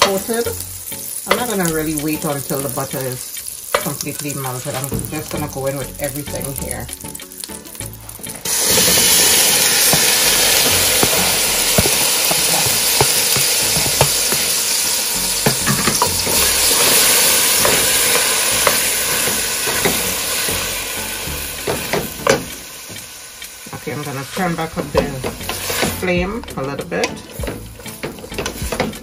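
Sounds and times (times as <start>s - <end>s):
utensil clicking against pot: 0.0s - 23.8s, 26.8s - 29.0s
vegetables sizzling in butter: 0.0s - 29.0s.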